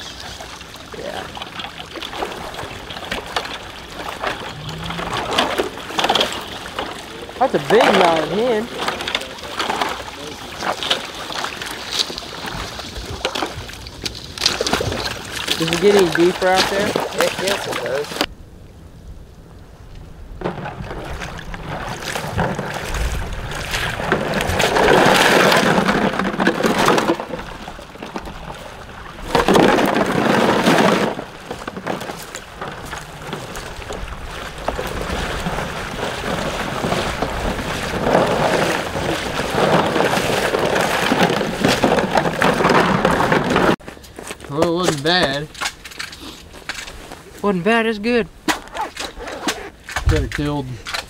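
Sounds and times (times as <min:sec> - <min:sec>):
splashing through shallow water: 0:00.0 - 0:18.3, 0:20.3 - 0:47.5.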